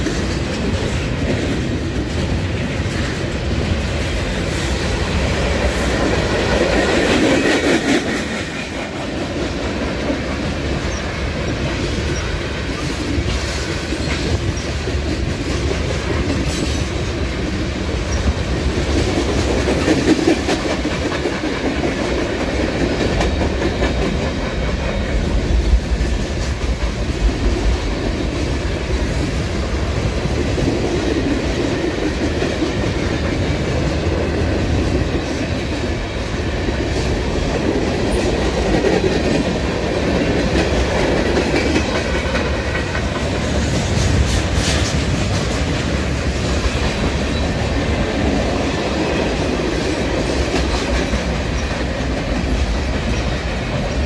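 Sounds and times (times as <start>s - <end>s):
train wheels rumbling on rails: 0.0s - 54.0s
wheels clickety-clack over joints: 0.0s - 54.0s.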